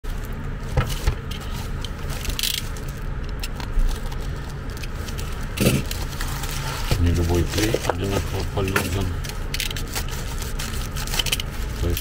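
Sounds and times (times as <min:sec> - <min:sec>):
steady low hum: 0:00.0 - 0:12.0
plastic bag crinkling: 0:00.1 - 0:12.0.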